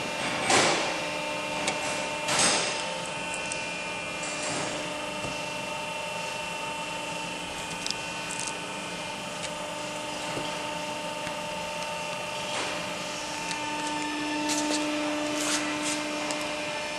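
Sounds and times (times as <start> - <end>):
machine hum: 0.0 - 16.9.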